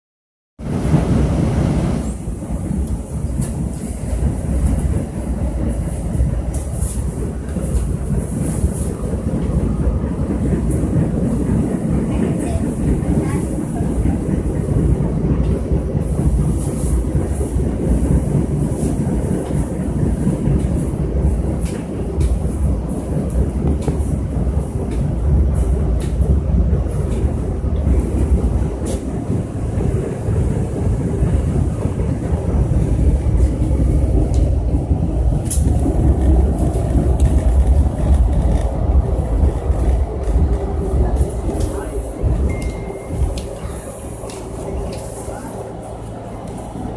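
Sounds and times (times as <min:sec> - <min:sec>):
subway train rumbling: 0:00.6 - 0:46.9.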